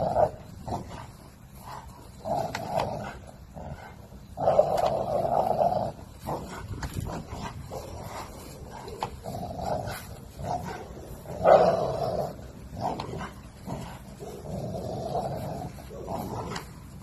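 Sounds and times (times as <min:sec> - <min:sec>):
dog growling: 0:00.0 - 0:17.0.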